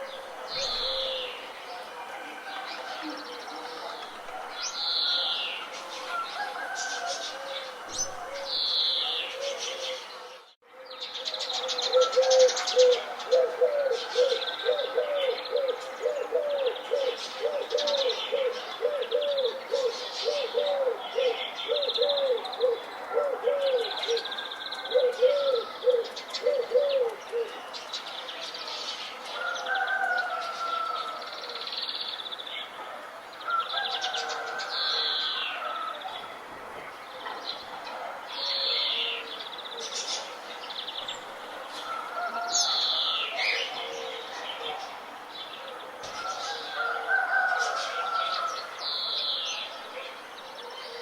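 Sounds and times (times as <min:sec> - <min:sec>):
songbirds chirping and trilling: 0:00.0 - 0:51.0.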